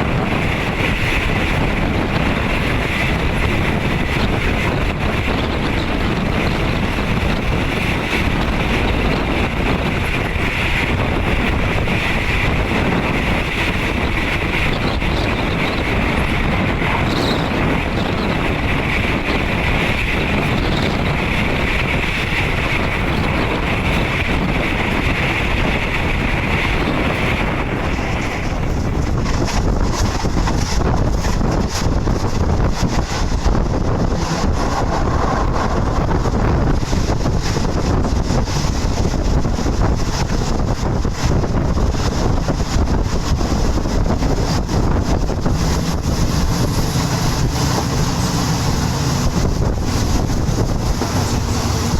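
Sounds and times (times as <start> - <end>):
moving train running noise: 0.0 - 51.9
wind buffeting microphone: 0.0 - 51.9.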